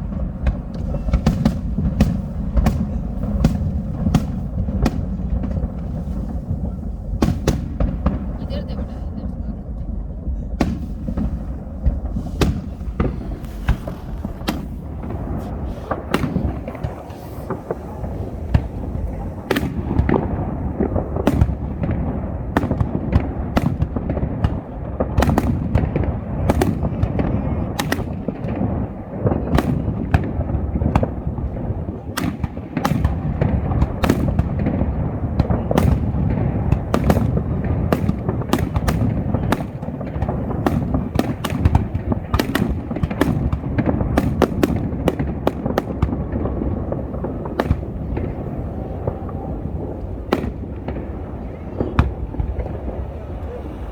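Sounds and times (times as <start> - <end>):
fireworks bangs and crackling: 0.0 - 53.9
low rumble of booms: 0.0 - 53.9.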